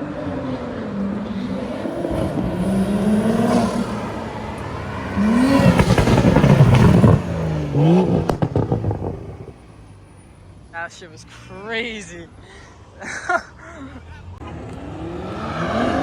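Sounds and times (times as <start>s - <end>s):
car engines revving and accelerating: 0.0s - 11.6s, 13.5s - 16.0s.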